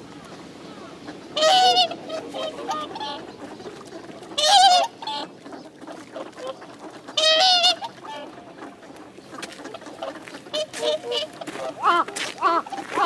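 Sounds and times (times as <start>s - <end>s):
soft short calls from flock: 0.0s - 13.0s
swans calling: 0.0s - 13.0s.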